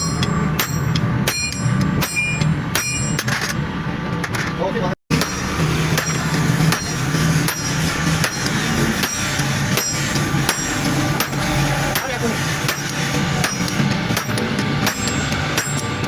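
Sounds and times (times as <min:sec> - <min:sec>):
hammer striking steel: 0:00.0 - 0:03.8, 0:05.1 - 0:16.0.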